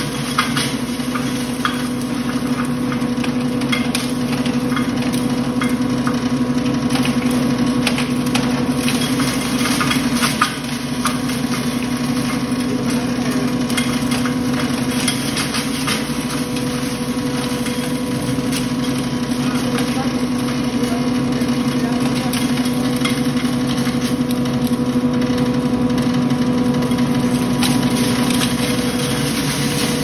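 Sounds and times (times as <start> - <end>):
feed grinder motor humming: 0.0 - 30.0.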